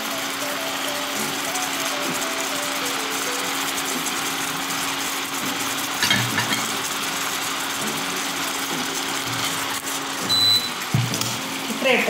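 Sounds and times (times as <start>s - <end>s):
induction cooktop humming: 0.0s - 12.0s.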